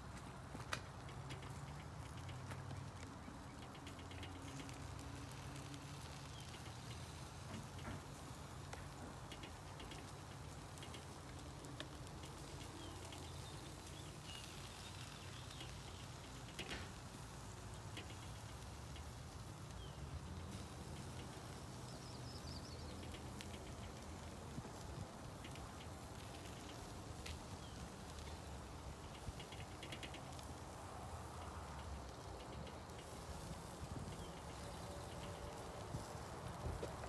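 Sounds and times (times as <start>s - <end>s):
brush and tub ticking: 0.3s - 37.0s.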